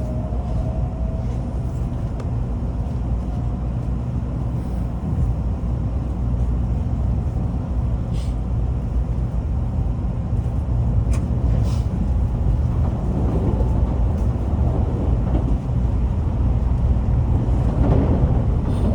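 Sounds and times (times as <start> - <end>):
train rumbling: 0.0 - 18.9.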